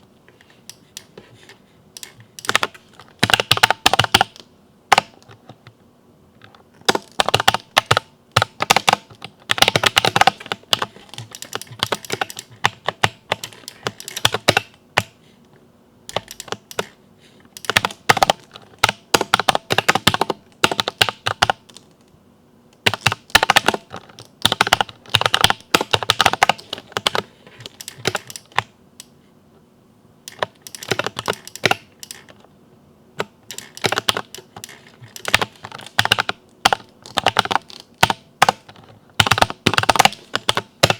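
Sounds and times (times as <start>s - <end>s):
mechanical keyboard typing: 2.0s - 5.8s, 6.8s - 15.2s, 16.1s - 22.0s, 22.8s - 28.7s, 30.3s - 32.4s, 33.2s - 40.9s.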